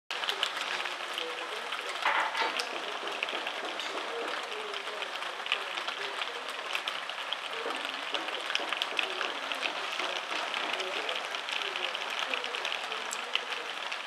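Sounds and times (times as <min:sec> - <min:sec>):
rain falling on trees: 0:00.1 - 0:14.0.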